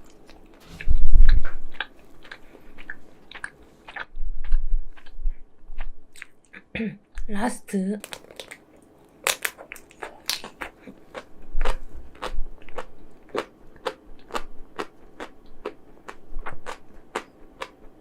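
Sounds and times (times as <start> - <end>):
crisp biting and chewing: 0.0 - 6.6, 8.0 - 17.8.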